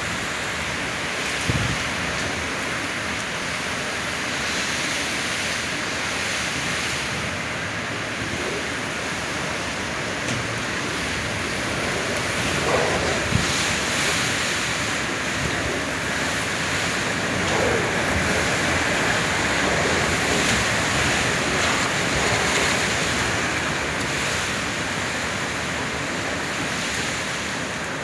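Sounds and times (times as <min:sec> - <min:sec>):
heavy rain: 0:00.0 - 0:28.0
strong gusting wind: 0:00.0 - 0:28.0.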